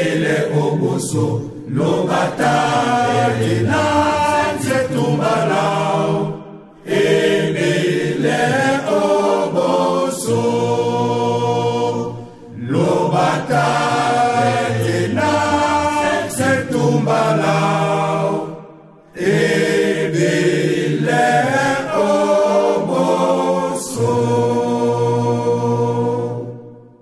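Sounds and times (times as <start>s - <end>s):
voices singing a chant: 0.0s - 27.0s.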